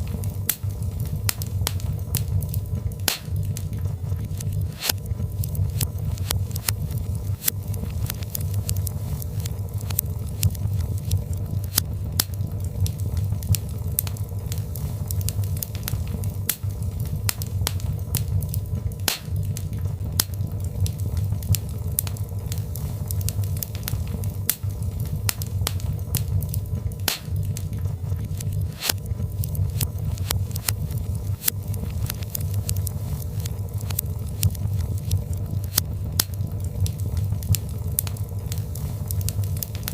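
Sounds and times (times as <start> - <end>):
fire crackling: 0.0 - 39.9
low rumble of flames: 0.0 - 39.9.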